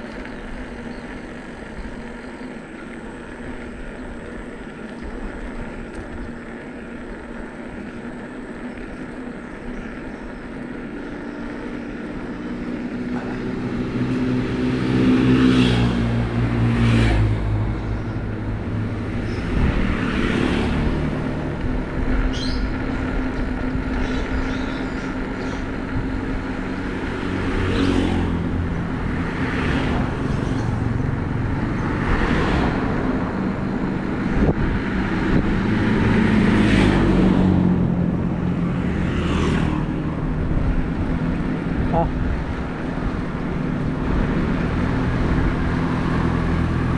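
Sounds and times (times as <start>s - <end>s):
motor vehicles passing: 0.0s - 46.9s
tyres rolling on road: 0.0s - 46.9s.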